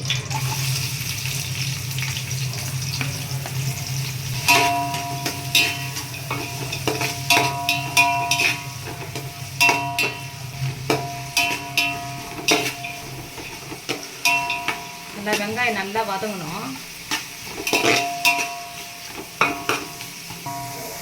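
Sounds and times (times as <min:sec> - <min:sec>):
onions sizzling in a pan: 0:00.0 - 0:21.0
metal spoon scraping a pan: 0:02.5 - 0:21.0.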